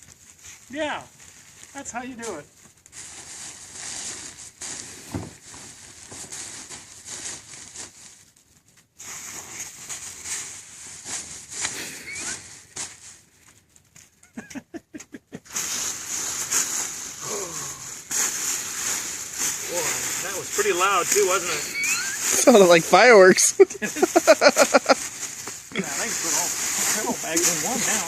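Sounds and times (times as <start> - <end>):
bubble wrap popping under tires: 0.0 - 14.7, 15.3 - 28.0.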